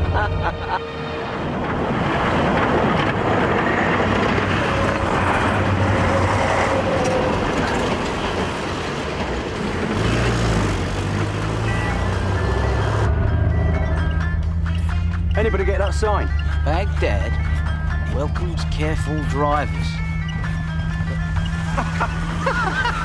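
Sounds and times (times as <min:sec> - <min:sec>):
road and engine noise: 0:00.0 - 0:23.0.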